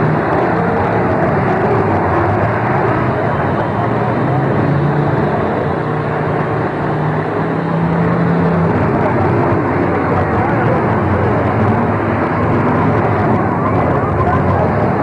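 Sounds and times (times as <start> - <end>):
car engines revving hard: 0.0 - 15.0
engine holding steady high rev: 0.0 - 15.0.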